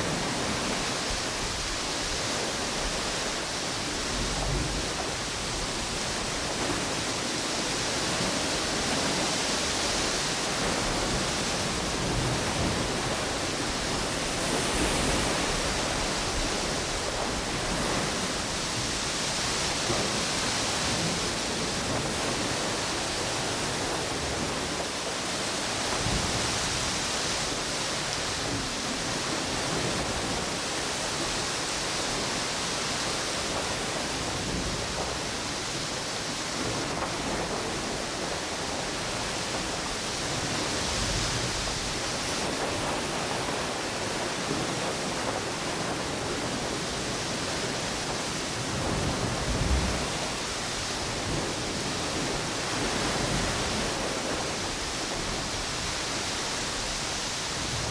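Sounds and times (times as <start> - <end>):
ocean waves washing on beach: 0.0 - 57.9
wind through palm trees: 0.0 - 57.9.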